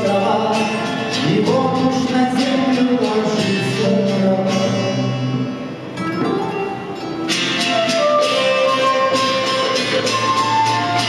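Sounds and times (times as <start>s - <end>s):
folk band acoustic guitar: 0.0s - 11.0s.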